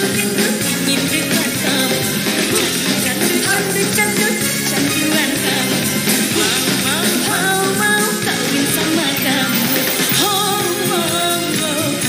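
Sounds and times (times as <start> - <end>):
pop backing music: 0.0 - 12.0
woman singing: 0.0 - 12.0.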